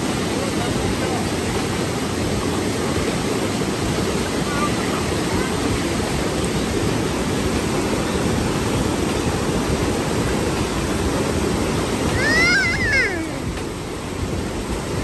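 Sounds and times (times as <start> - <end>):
sea surf washing on beach: 0.0 - 15.0.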